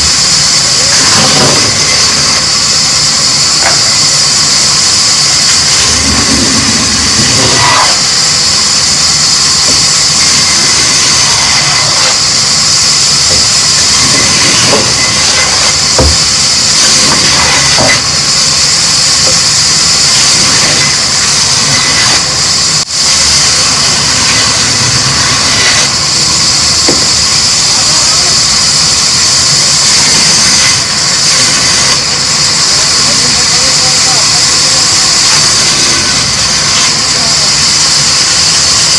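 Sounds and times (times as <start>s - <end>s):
machine running with hiss: 0.0s - 38.9s.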